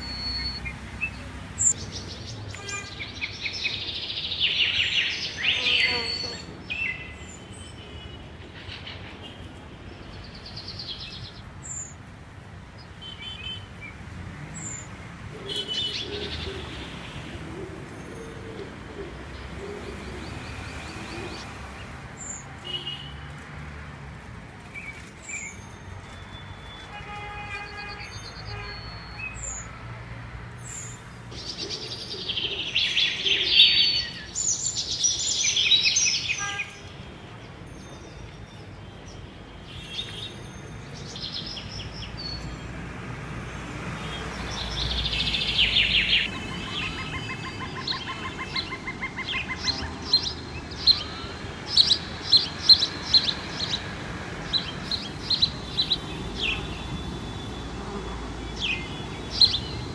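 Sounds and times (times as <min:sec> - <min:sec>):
birds calling and chirping: 0:00.0 - 0:12.0, 0:12.8 - 0:23.3, 0:24.7 - 0:29.8, 0:30.6 - 0:59.9.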